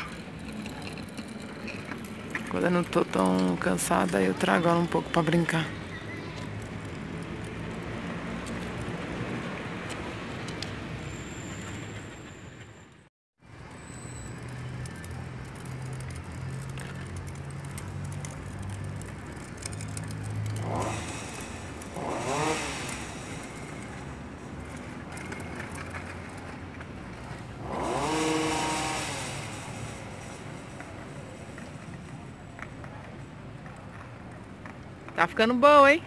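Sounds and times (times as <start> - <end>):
vehicles passing by: 0.0 - 36.0.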